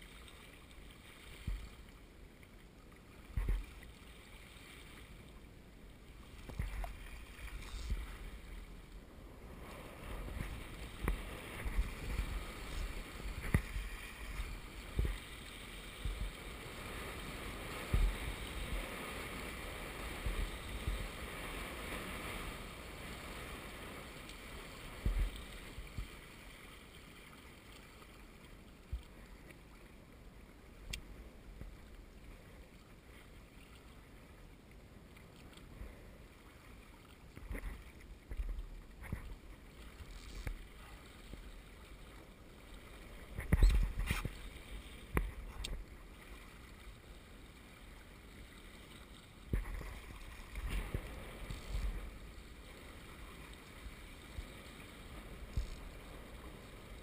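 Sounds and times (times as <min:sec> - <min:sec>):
water gurgling along boat hulls: 0:00.0 - 0:57.0.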